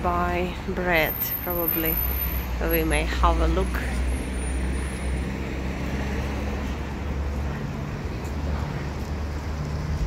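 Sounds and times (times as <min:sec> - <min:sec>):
general traffic hum: 0:00.0 - 0:10.0.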